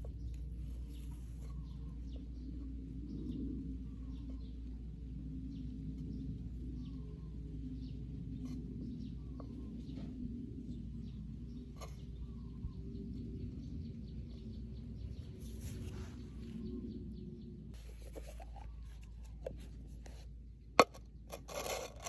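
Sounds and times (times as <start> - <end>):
birds chirping faintly: 0.0 - 22.0
low background rumble: 0.0 - 22.0.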